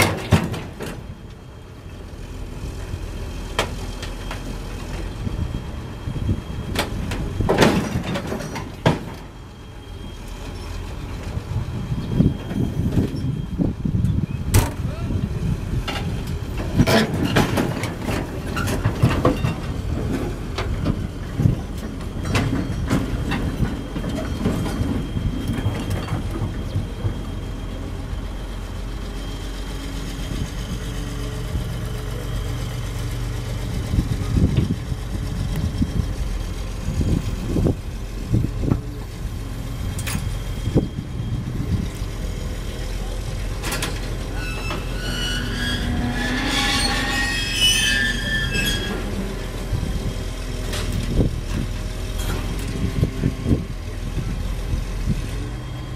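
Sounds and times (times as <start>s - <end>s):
excavator diesel engine under load: 0.0s - 47.2s, 48.2s - 55.9s
steel tracks clanking: 0.0s - 54.3s.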